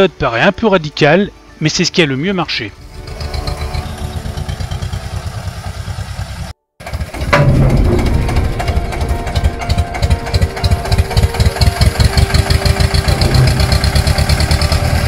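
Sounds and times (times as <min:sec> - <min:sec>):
tractor engine throbbing: 0:02.5 - 0:15.0.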